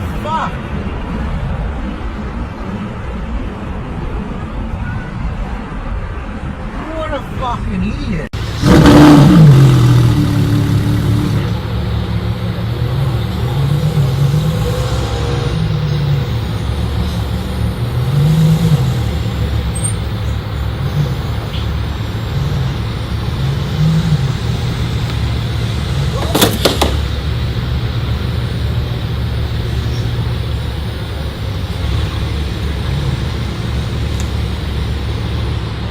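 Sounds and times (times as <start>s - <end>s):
vehicle engine and road rumble: 0.0s - 35.9s.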